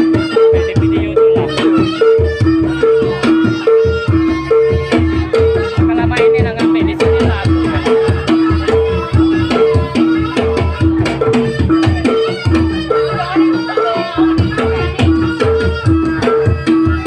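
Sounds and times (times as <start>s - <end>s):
drums: 0.0s - 17.0s
rattling percussion: 0.0s - 17.0s
two alternating pitched notes: 0.0s - 17.0s.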